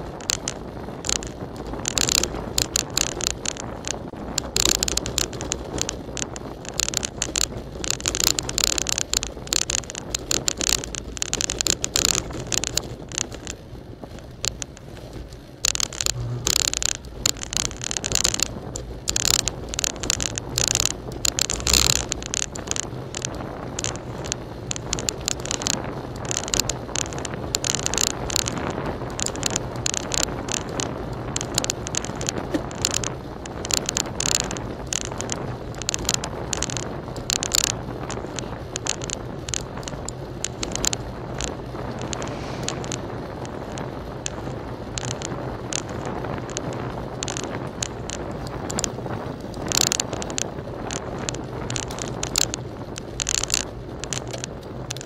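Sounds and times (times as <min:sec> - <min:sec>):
bicycle rattling and clicking: 0:00.0 - 0:55.0
wind rumble on microphone: 0:00.0 - 0:55.0.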